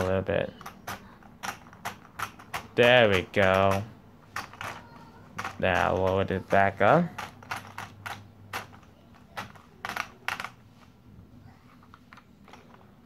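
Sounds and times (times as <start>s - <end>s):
plastic toy crane clicking: 0.0s - 10.6s.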